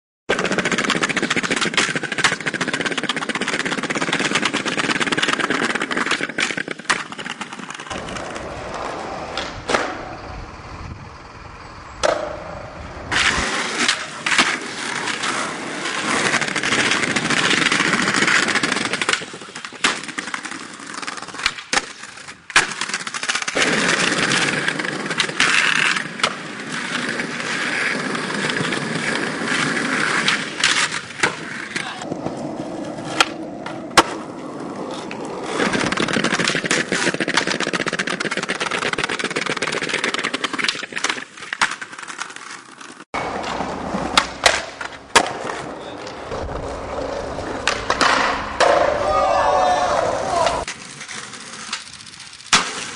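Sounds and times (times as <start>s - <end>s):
skateboard clacking on ground: 0.3s - 10.3s, 12.0s - 52.9s
skateboard wheels rolling: 0.3s - 52.9s.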